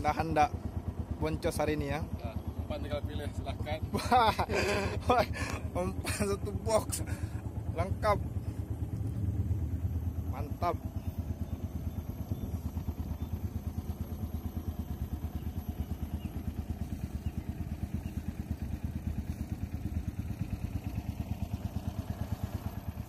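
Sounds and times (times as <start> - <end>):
boat motor throbbing: 0.0 - 23.0.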